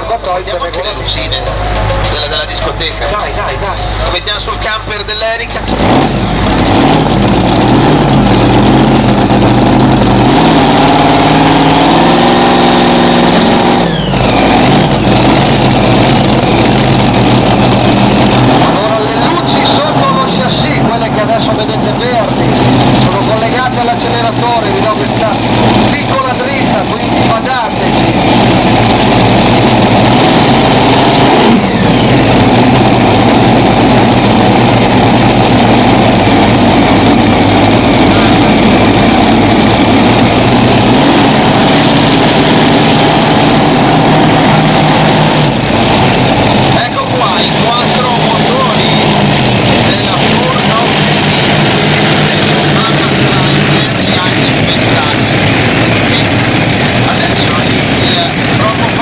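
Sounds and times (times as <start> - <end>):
pulling tractor engine revving: 0.0 - 59.0.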